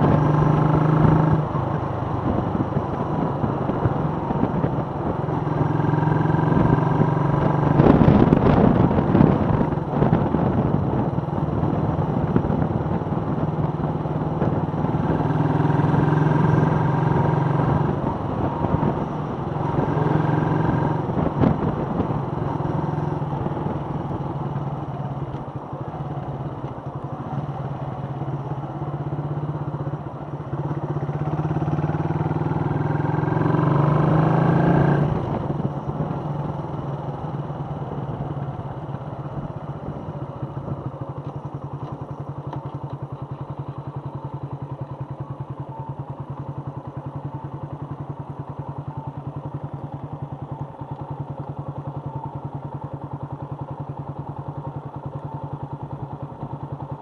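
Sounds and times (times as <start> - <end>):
motorcycle engine idling: 0.0 - 57.0
motorcycle engine revving: 0.0 - 57.0.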